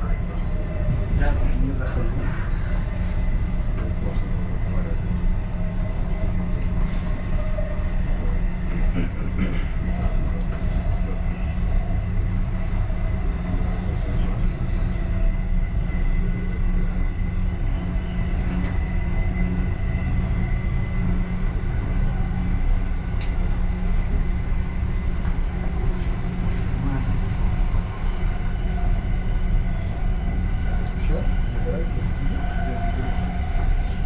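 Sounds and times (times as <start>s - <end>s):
faint high whine: 0.0s - 34.0s
train wheels rumbling: 0.0s - 34.0s.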